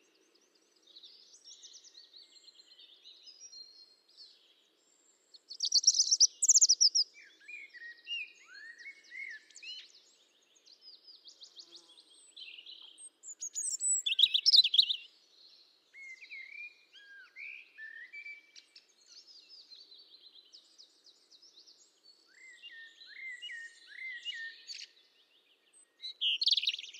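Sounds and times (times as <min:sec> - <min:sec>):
songbirds chirping and singing: 0:00.0 - 0:26.9.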